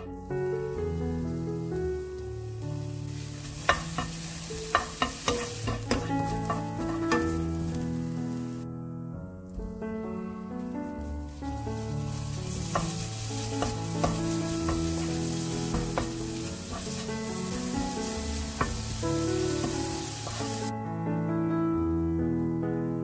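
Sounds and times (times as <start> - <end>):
garlic sizzling in oil: 0.0 - 8.6, 10.6 - 20.7
background music: 0.0 - 23.0.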